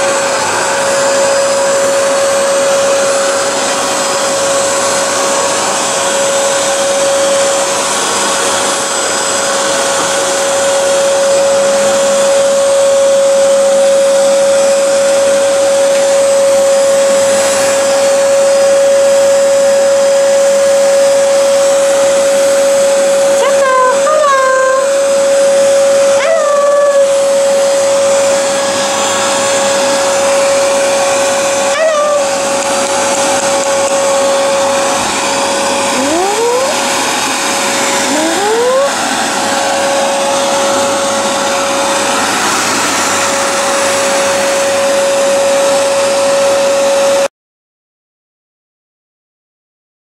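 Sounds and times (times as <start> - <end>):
vacuum cleaner running: 0.0 - 47.3.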